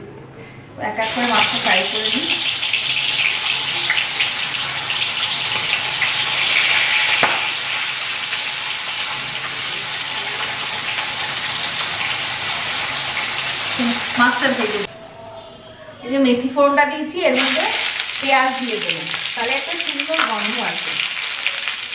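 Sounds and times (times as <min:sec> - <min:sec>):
fish sizzling in hot oil: 0:01.0 - 0:14.9, 0:17.3 - 0:21.9.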